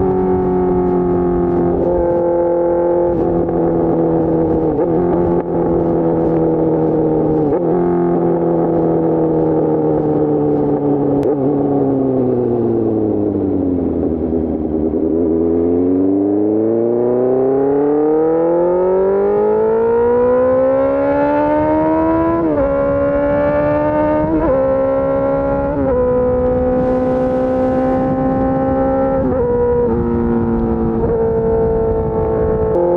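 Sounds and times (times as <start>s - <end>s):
motorcycle engine: 0.0s - 32.9s.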